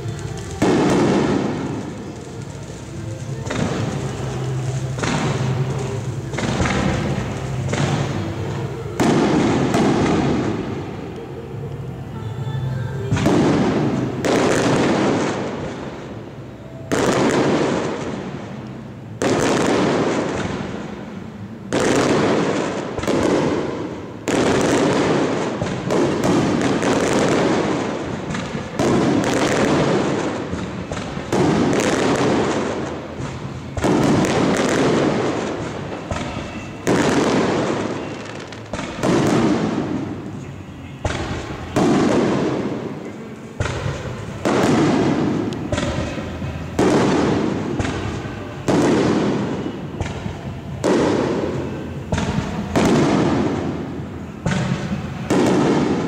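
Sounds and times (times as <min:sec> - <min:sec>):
firework shells booming: 0:00.0 - 0:11.0, 0:16.8 - 0:56.0.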